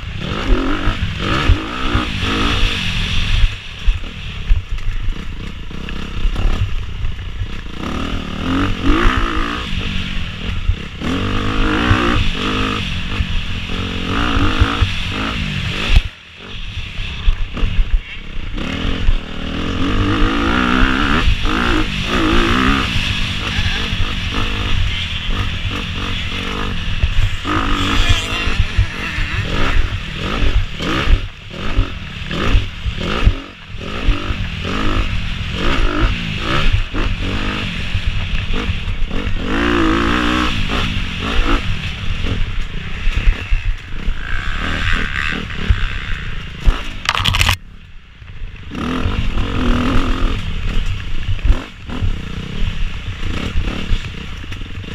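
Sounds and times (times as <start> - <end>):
dirt bike engine revving: 0.0 - 47.8, 48.7 - 54.9.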